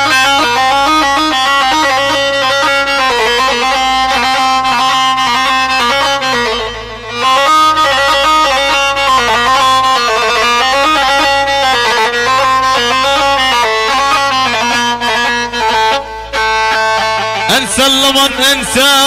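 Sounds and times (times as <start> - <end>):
reedy wind instrument melody: 0.0 - 19.0.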